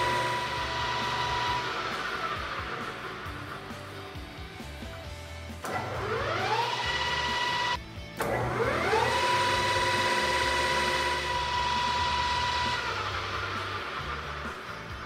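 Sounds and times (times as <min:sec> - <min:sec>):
metal lathe whining: 0:00.0 - 0:04.7, 0:05.6 - 0:15.0.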